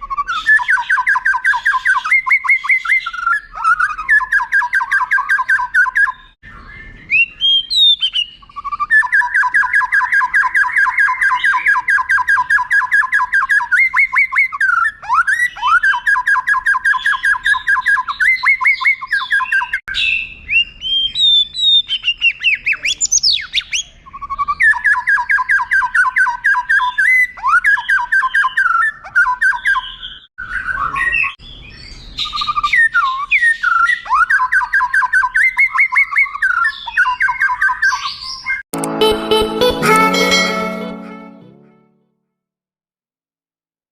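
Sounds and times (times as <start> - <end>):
bird whistled phrases: 0.0 - 31.4, 32.2 - 38.6.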